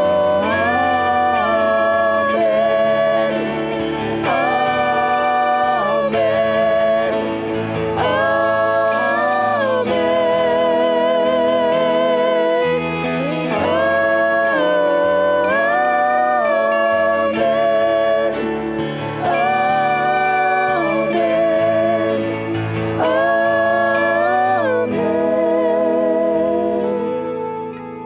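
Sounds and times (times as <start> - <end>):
man and woman singing: 0.0 - 27.7
electric guitar and band: 0.0 - 28.0.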